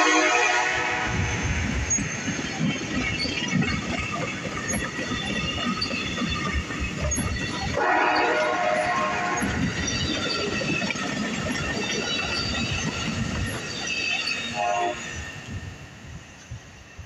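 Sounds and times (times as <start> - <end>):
train wheels clicking over rail joints: 1.4 - 16.9
wheel squeal: 1.8 - 15.8.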